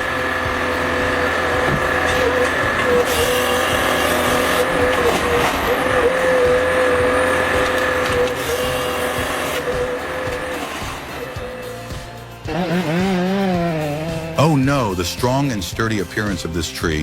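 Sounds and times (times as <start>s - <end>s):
forestry harvester engine running: 0.0s - 17.0s.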